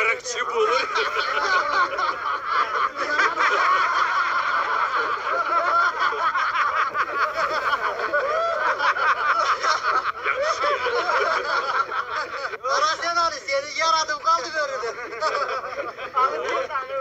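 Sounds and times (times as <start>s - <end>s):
group of men laughing: 0.0s - 17.0s.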